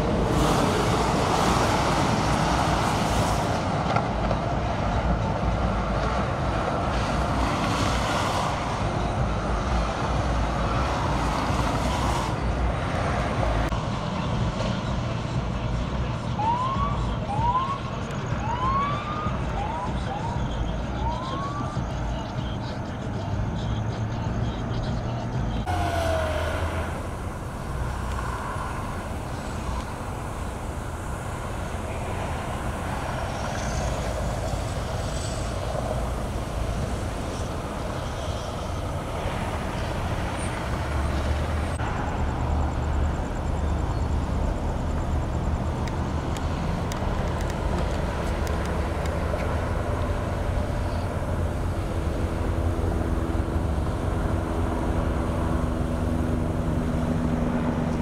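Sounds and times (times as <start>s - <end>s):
engine hum: 0.0s - 58.0s
freeway traffic rumble: 0.0s - 58.0s.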